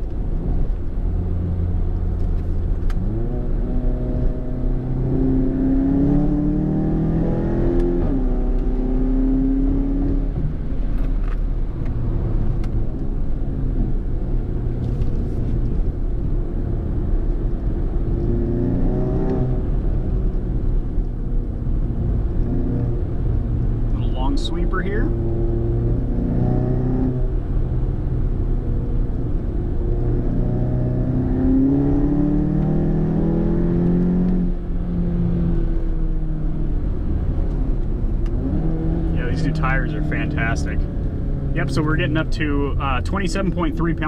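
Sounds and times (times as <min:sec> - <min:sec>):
turbocharged car engine droning: 0:00.0 - 0:44.0.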